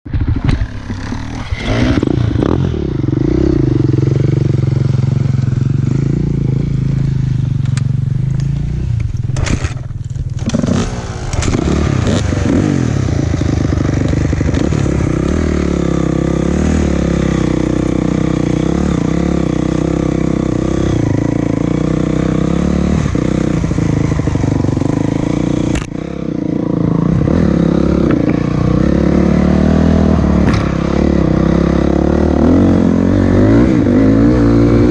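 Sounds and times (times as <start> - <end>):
vehicle engine under load: 0.1 - 34.9.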